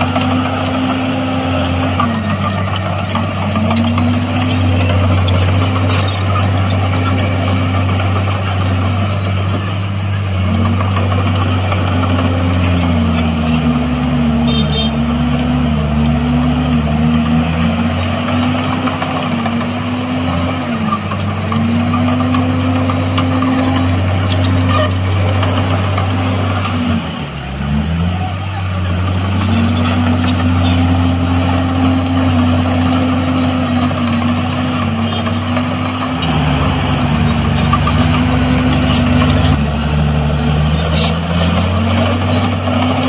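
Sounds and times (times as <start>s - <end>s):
bulldozer diesel engine under load: 0.0s - 43.0s.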